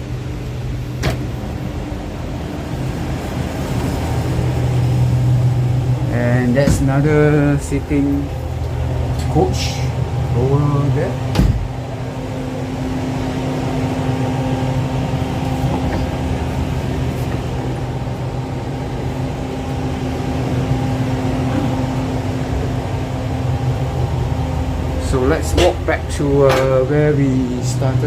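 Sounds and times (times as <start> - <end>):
train machinery humming: 0.0 - 28.0.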